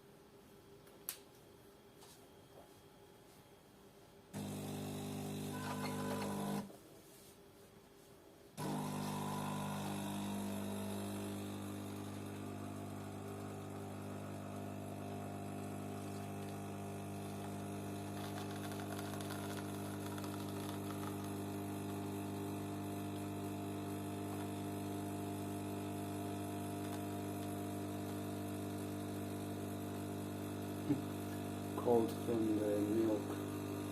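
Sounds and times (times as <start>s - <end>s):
coffee machine pump humming: 4.4s - 6.7s, 8.6s - 33.9s.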